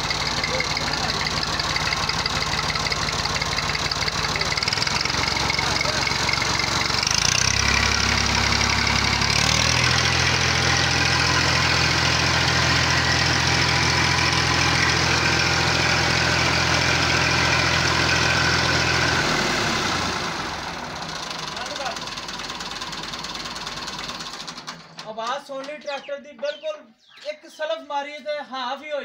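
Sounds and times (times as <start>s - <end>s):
tractor diesel engine running: 0.0s - 25.1s.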